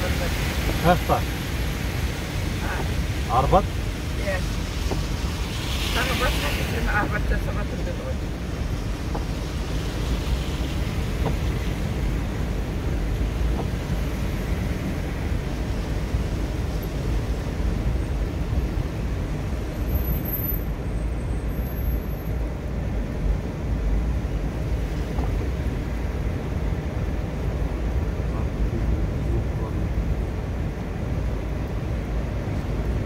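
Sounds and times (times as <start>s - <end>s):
car interior rumble: 0.0s - 33.0s.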